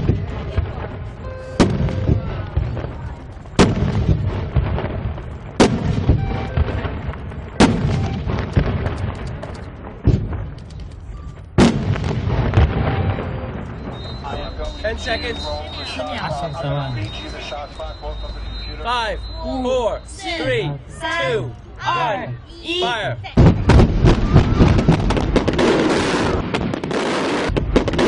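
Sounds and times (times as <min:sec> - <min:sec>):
firework bangs: 0:00.0 - 0:20.2, 0:23.2 - 0:28.0
firework crackle: 0:00.0 - 0:20.2, 0:23.3 - 0:28.0.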